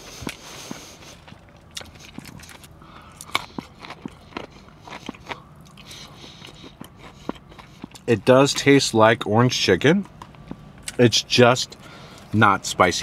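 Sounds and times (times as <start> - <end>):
mouth chewing crunchy food: 0.0 - 8.9, 9.9 - 12.3.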